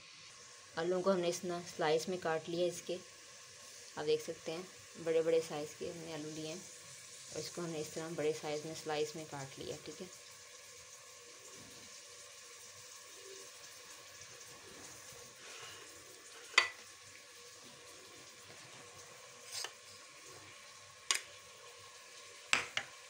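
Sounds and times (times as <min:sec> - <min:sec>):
onion sizzling in oil: 0:00.0 - 0:23.0.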